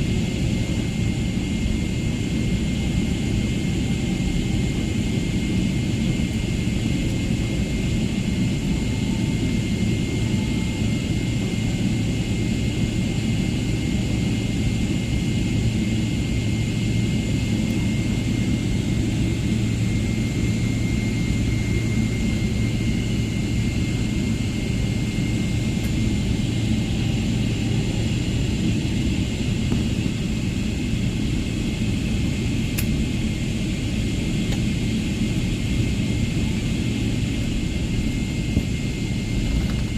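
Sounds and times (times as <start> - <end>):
airliner cabin rumble and whine: 0.0 - 39.9.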